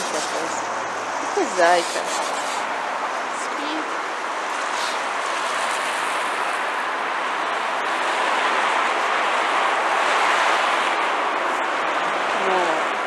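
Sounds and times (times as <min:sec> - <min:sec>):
tyre hiss on wet road: 0:00.0 - 0:11.0.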